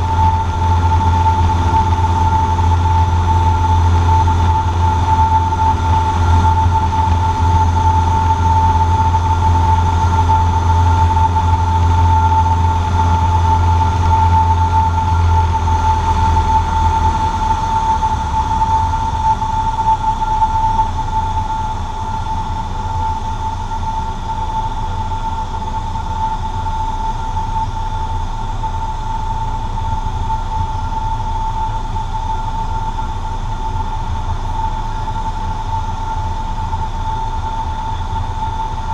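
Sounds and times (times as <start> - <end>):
airplane engine and propeller droning: 0.0 - 38.9
high whine: 0.0 - 38.9.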